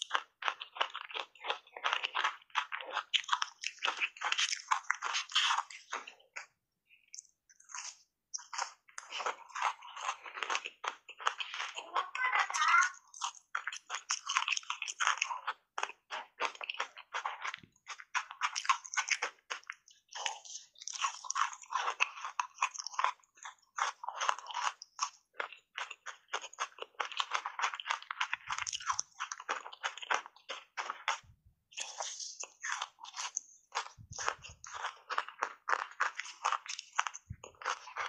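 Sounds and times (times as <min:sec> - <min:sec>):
ice cubes crunching when chewed: 0:00.0 - 0:38.0.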